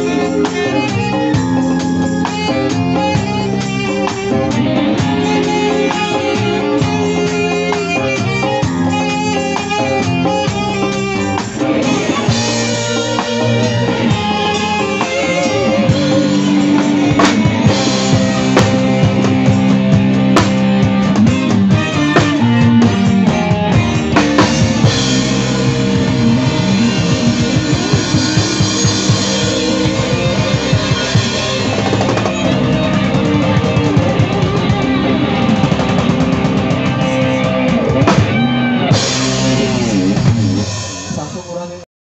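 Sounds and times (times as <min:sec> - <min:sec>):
drum kit: 0:00.0 - 0:41.8
live band playing: 0:00.0 - 0:41.8.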